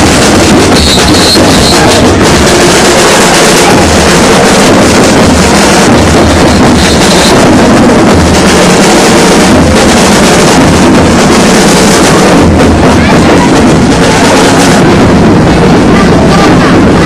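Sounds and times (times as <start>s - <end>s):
crowd noise: 0.0s - 17.0s
loud parade music with heavy beat: 0.0s - 17.0s.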